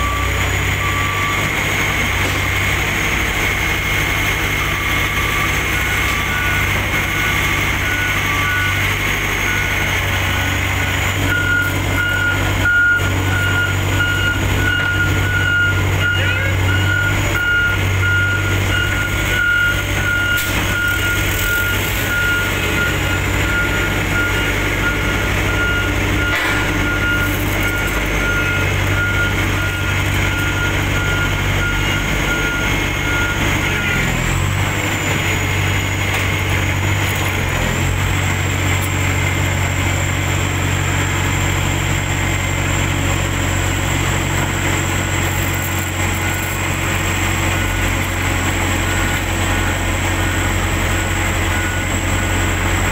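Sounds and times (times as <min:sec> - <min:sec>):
heavy diesel engines running: 0:00.0 - 0:52.9
reversing alarm beeping: 0:00.0 - 0:52.9.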